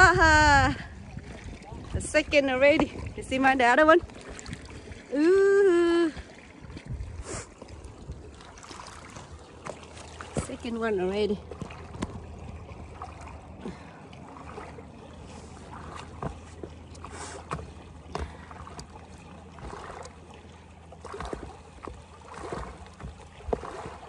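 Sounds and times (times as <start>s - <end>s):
small waves lapping at rocky shore: 0.0s - 24.0s.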